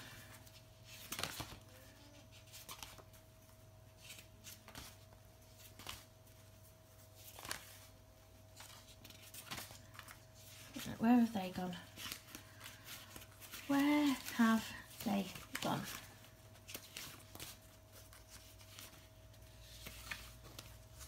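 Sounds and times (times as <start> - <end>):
faint steady hum: 0.0 - 21.0
papers rustling: 0.0 - 21.0.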